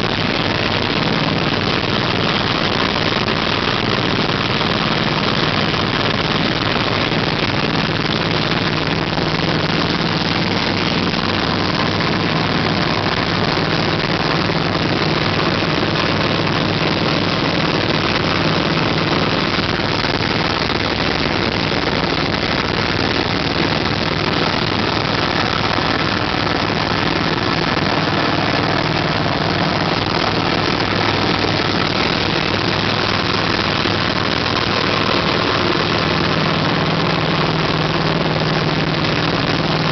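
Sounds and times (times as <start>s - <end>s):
vehicle engine idling with rattle: 0.0s - 39.9s.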